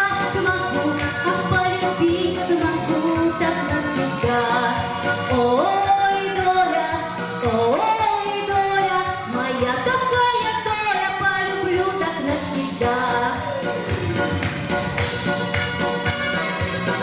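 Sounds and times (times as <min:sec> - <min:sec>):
instrumental backing music: 0:00.0 - 0:17.0.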